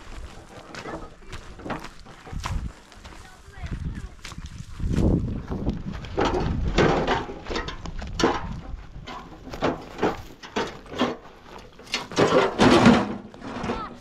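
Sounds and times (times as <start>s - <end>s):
knocks and scrapes: 0.0s - 2.8s, 4.8s - 14.0s.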